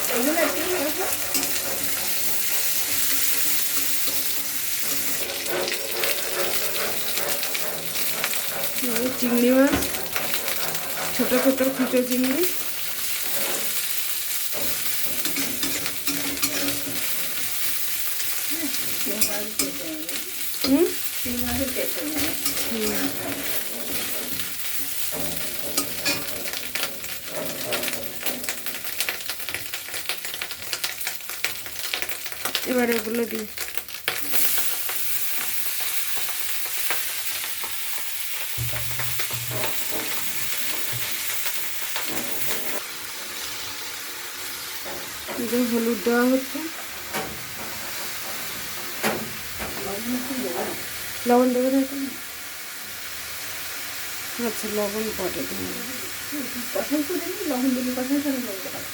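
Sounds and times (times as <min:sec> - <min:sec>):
spatula scraping a pan: 0:00.0 - 0:32.6, 0:33.6 - 0:43.6, 0:44.7 - 0:50.9
prawns sizzling in hot oil: 0:00.0 - 0:58.9.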